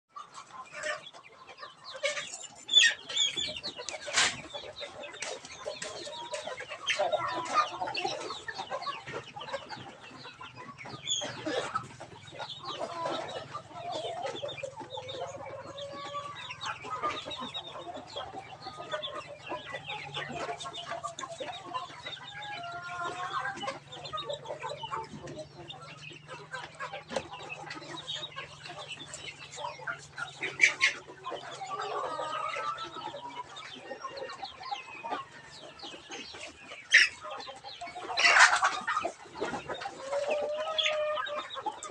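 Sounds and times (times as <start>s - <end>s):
chickens clucking and chirping: 0.0s - 41.9s.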